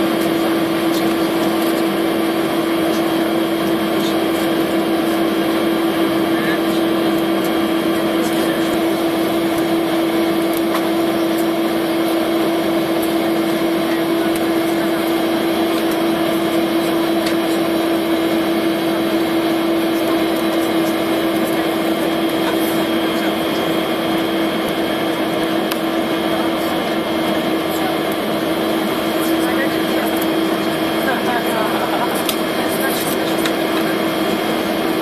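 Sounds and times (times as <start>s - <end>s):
jet engines humming: 0.0s - 35.0s.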